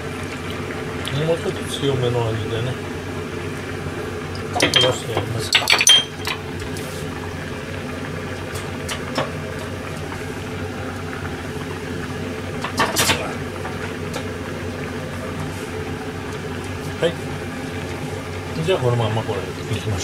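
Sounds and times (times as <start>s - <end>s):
broth boiling: 0.0s - 20.0s.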